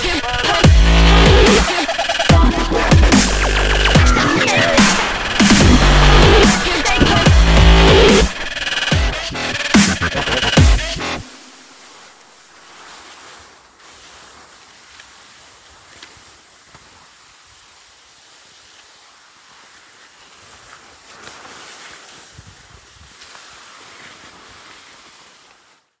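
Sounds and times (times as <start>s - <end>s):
skis hissing over snow: 1.4s - 26.0s.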